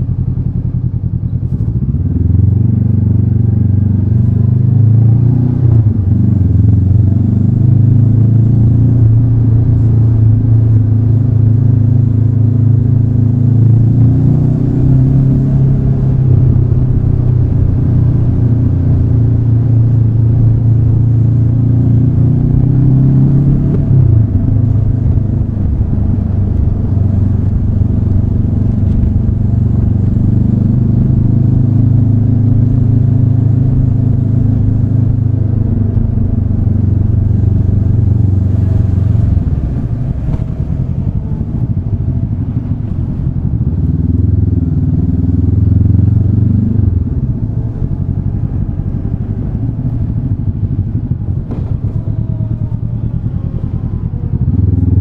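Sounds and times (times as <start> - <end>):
motorcycle engine at low speed: 0.0 - 55.0.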